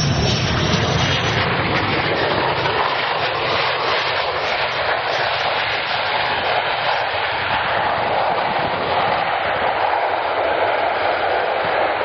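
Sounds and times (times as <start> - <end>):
jet engine noise: 0.0 - 12.0.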